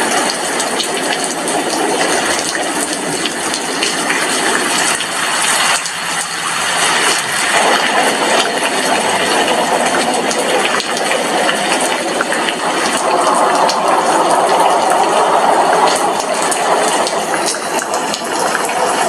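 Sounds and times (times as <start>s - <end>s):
heavy rain on window glass: 0.0s - 19.0s.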